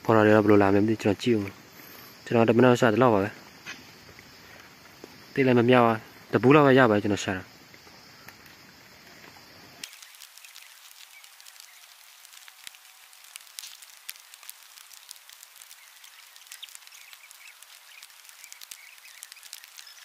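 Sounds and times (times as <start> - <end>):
small irregular ticks: 0.0 - 20.0
steady high hiss: 0.0 - 20.0.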